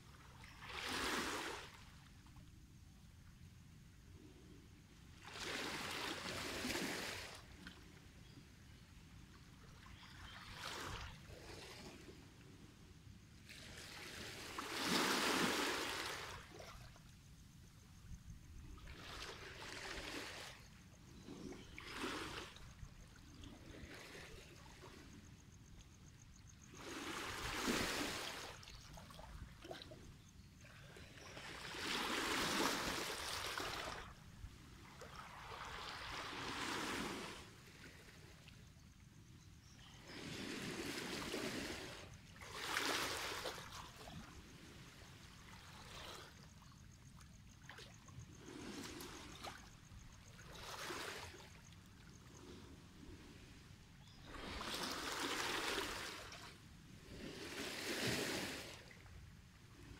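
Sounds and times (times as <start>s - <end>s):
small waves on stony beach: 0.0s - 2.0s, 4.2s - 8.4s, 9.3s - 12.7s, 13.3s - 17.0s, 18.6s - 59.9s.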